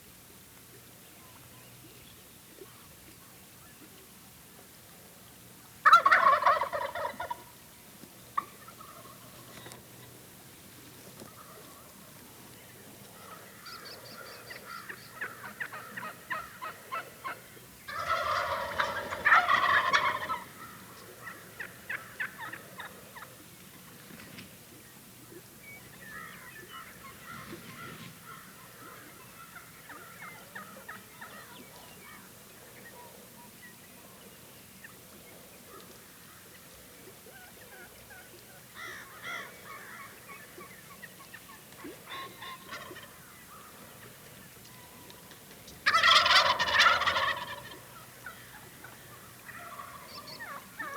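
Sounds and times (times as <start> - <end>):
turkeys gobbling: 5.8 - 7.6, 8.3 - 10.2, 11.0 - 24.0, 25.2 - 33.5, 34.8 - 50.9.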